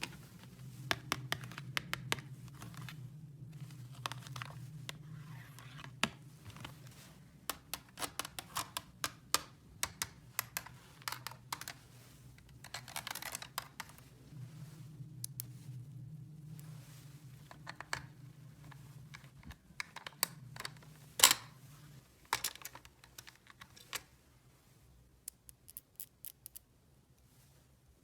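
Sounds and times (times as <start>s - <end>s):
low steady hum: 0.0s - 25.7s.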